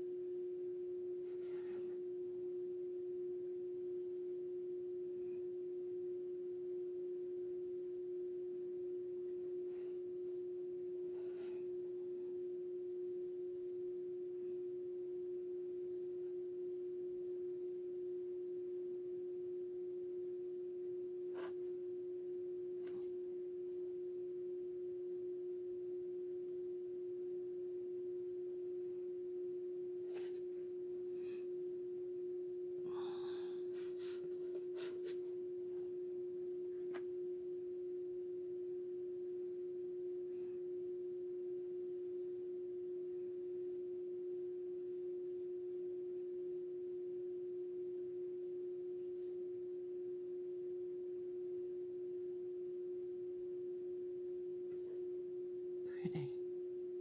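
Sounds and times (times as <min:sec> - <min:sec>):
steady mid-pitched hum: 0:00.0 - 0:57.0.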